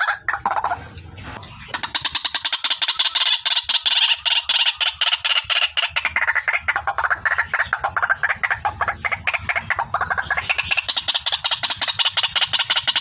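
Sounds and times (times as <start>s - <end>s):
waterhen calling harsh repeated notes: 0.0s - 13.0s.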